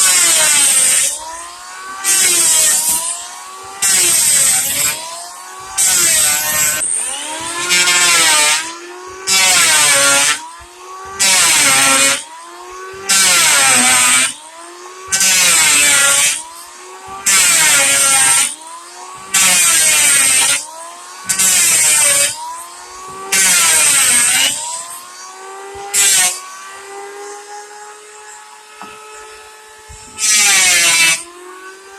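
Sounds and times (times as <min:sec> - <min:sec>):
electric wood planer cutting: 0:00.0 - 0:31.9.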